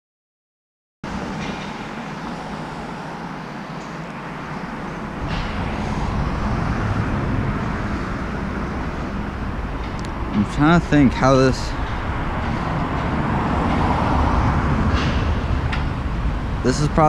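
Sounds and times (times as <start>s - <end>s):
passing cars: 1.1s - 17.0s
vehicle rumbling by: 1.1s - 17.0s.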